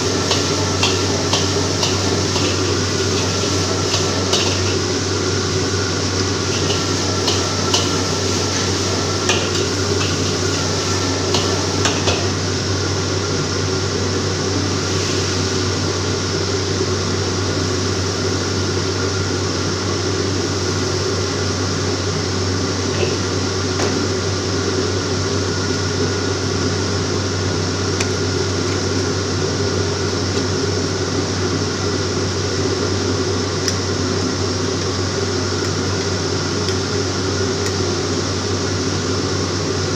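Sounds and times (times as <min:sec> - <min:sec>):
gas burner and hood roar: 0:00.0 - 0:39.9.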